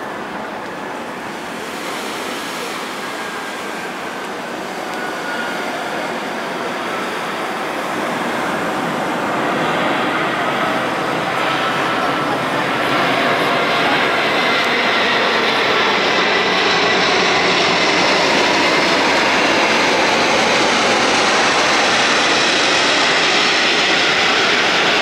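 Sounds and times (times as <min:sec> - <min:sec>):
jet airliner flying overhead: 0:00.0 - 0:25.0.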